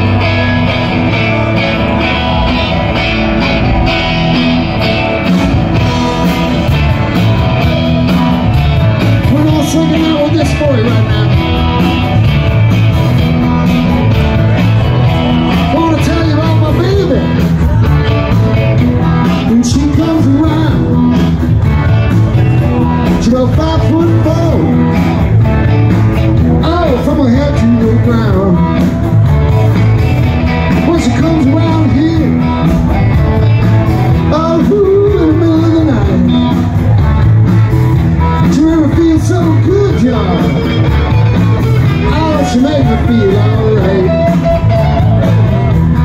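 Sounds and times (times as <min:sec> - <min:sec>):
electric guitars: 0:00.0 - 0:46.0
live rock band playing: 0:00.0 - 0:46.0.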